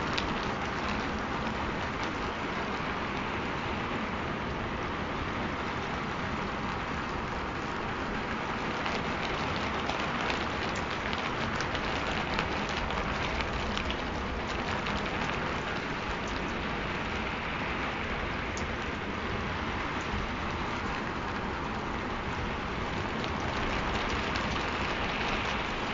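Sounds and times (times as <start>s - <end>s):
rain falling steadily: 0.0s - 25.9s.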